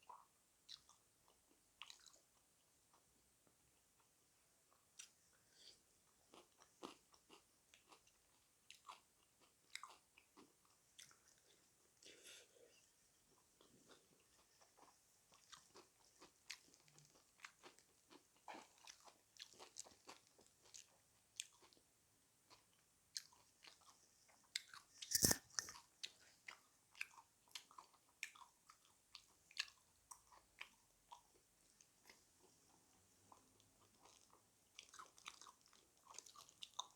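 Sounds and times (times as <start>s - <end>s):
crunchy chewing of fried chicken: 0.0s - 36.9s.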